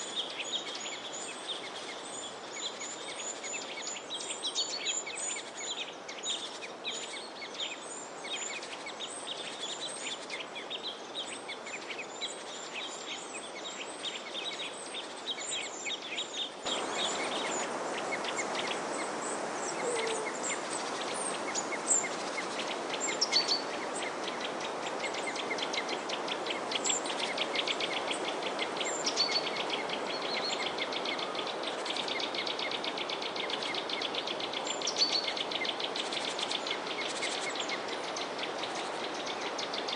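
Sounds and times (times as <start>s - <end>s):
small birds chirping: 0.0s - 39.9s
steady background hiss: 0.0s - 39.9s.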